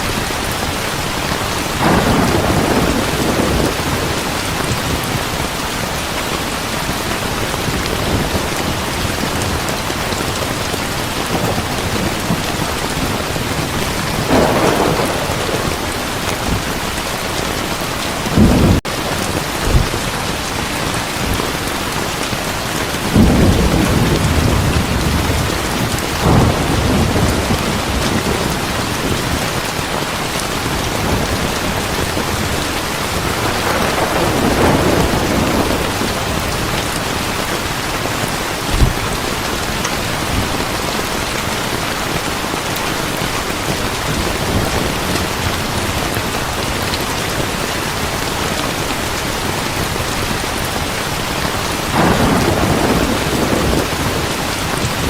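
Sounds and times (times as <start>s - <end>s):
thunder rumbling: 0.0s - 5.6s, 6.6s - 21.7s, 23.0s - 48.8s, 51.7s - 55.0s
heavy rain falling: 0.0s - 55.0s.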